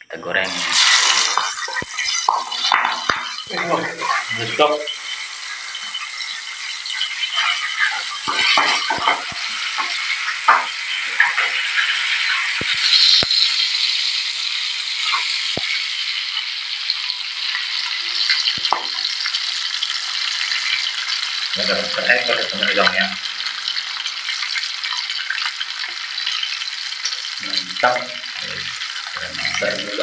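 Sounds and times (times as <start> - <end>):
shrimp sizzling in hot oil: 0.3 - 30.0
oil crackling and popping: 0.4 - 30.0.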